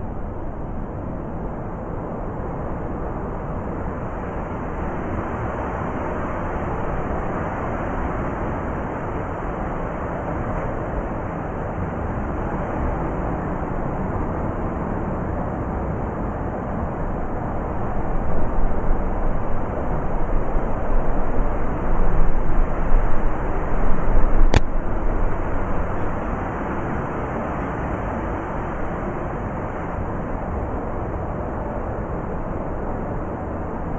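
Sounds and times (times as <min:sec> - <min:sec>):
blizzard wind gusting: 0:00.0 - 0:33.9.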